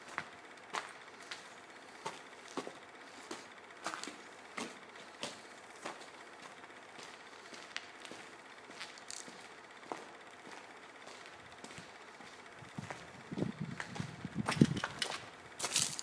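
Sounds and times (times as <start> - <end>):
footsteps crunching on grit: 0.0 - 16.0.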